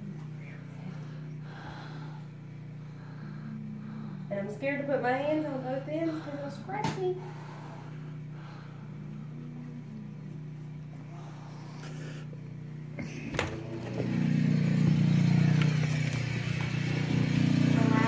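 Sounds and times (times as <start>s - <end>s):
low outdoor rumble: 0.0s - 18.0s
steady low hum: 0.0s - 18.0s.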